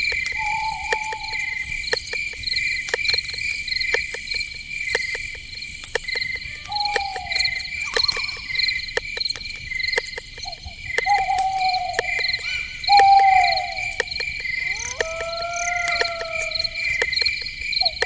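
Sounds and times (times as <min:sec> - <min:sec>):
crickets chirping: 0:00.0 - 0:18.0
sharp ticks: 0:00.0 - 0:18.0.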